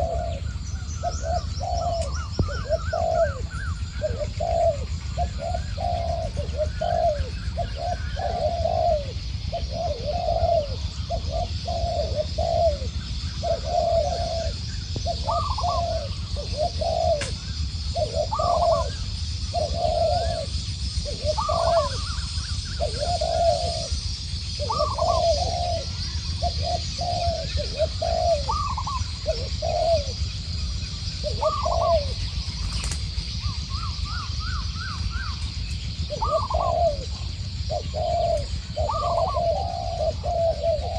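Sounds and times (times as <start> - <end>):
doves cooing: 0.0 - 40.9
low rumble: 0.0 - 40.9.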